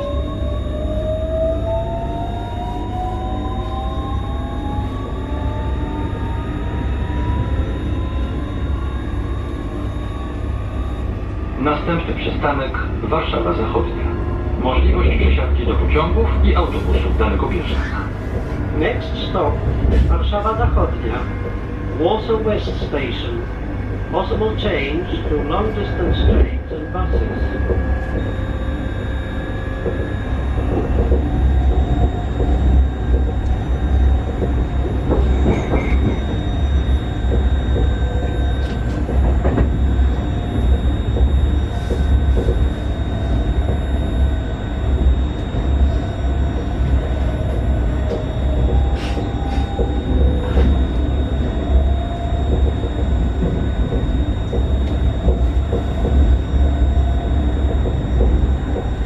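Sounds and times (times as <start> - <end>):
faint wavering tones: 0.0 - 59.0
wheels rumbling on rails: 0.0 - 59.0.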